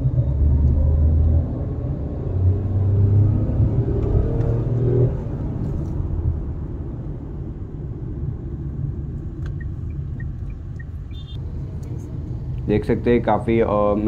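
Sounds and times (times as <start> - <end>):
car engine accelerating: 0.0 - 14.0
road rumble: 0.0 - 14.0.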